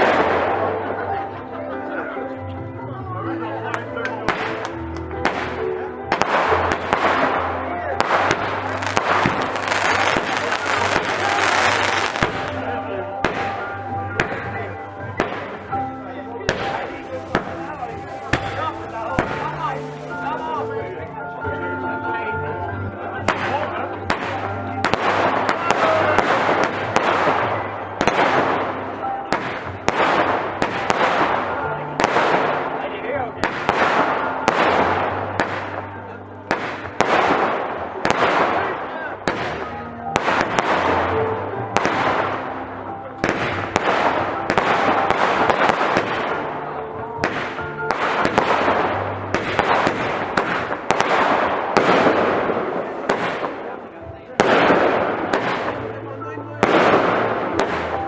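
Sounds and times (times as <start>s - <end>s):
fireworks crackling: 0.0s - 1.4s, 3.7s - 22.1s, 23.2s - 58.0s
fireworks bangs: 4.2s - 20.7s, 23.3s - 42.6s, 43.2s - 56.0s, 56.6s - 58.0s.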